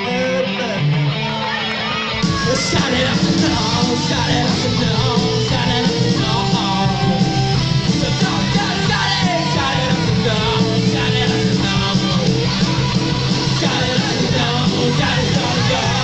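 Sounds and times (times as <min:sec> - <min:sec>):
person singing: 0:00.0 - 0:12.6, 0:13.3 - 0:16.0
live punk rock band: 0:00.0 - 0:16.0.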